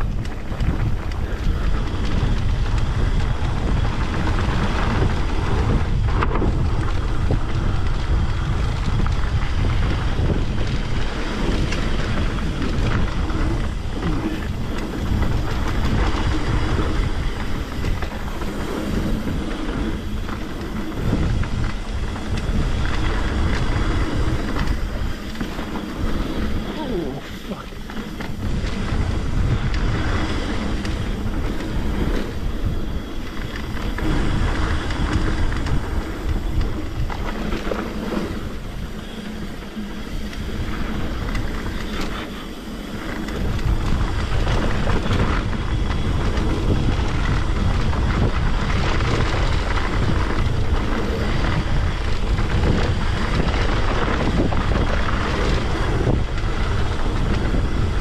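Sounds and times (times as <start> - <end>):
bike tyres rolling on dirt: 0.0 - 58.0
wind buffeting microphone: 0.0 - 58.0.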